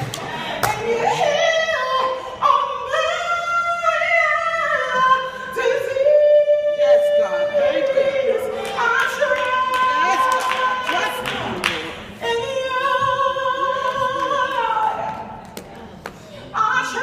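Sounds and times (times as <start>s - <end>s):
woman singing gospel solo: 0.2s - 15.4s, 16.5s - 17.0s.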